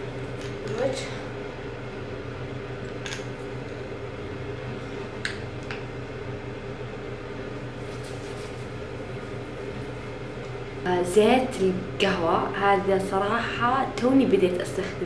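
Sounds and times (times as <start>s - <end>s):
room fan humming: 0.0s - 15.0s.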